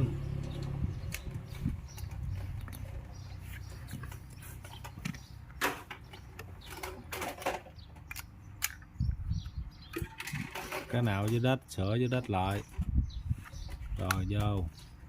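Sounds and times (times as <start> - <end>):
fan parts clicking and tapping: 0.4 - 14.8.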